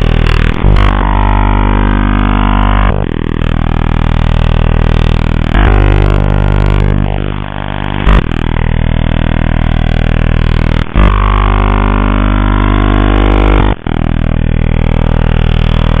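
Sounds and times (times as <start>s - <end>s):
radio droning buzz: 0.0s - 16.0s.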